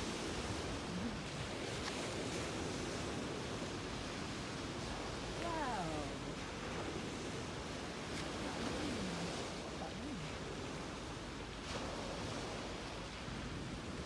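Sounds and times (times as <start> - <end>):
sea surf on shore: 0.0 - 14.0.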